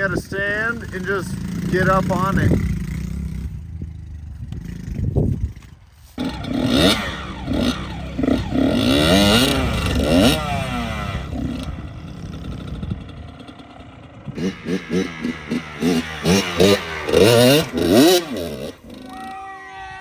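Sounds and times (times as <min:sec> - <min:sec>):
two-stroke dirt bike engine revving: 0:00.0 - 0:19.6.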